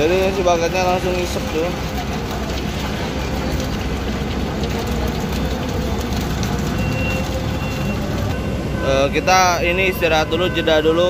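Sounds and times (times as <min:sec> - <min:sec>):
concrete pump and mixer rumbling: 0:00.0 - 0:11.0.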